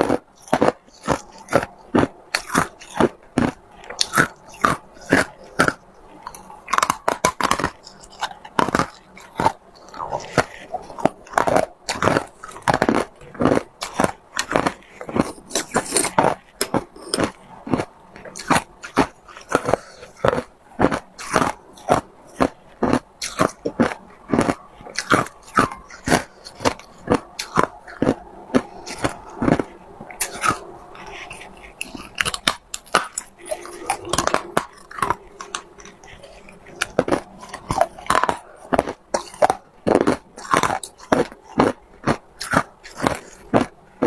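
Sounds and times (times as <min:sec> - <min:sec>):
person crunching ice: 0:00.0 - 0:44.0.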